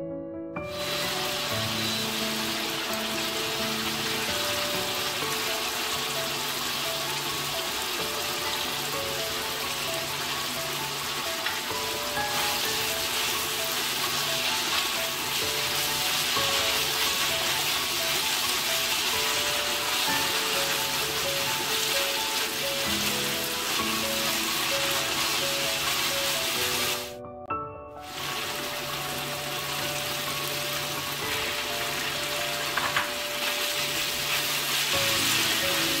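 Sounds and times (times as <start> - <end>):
light background music: 0.0 - 36.0
food sizzling in hot oil: 0.6 - 27.1, 28.0 - 36.0.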